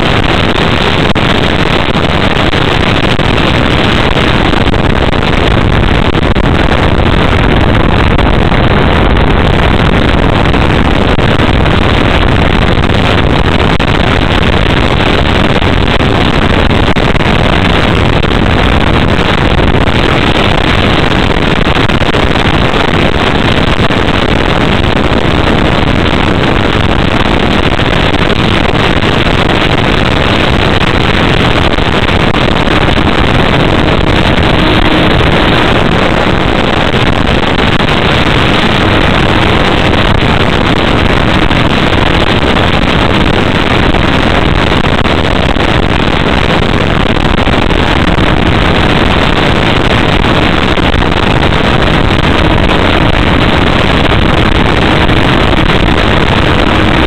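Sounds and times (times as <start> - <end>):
loud rush of airflow: 0.0 - 57.0.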